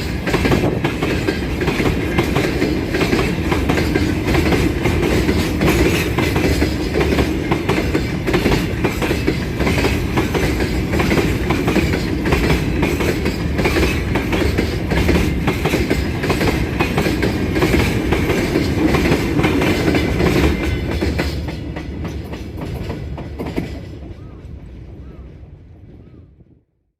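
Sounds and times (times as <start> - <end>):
train wheels clicking over rail joints: 0.0 - 25.5
train rumble: 0.0 - 26.6.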